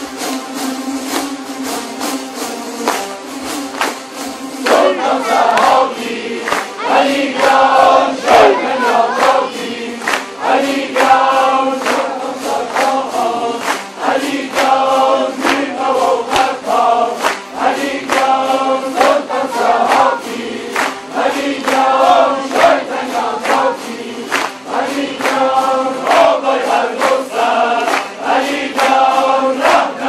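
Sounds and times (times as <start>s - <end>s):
lutes strummed together: 0.0s - 30.0s
many voices singing in unison: 4.2s - 30.0s.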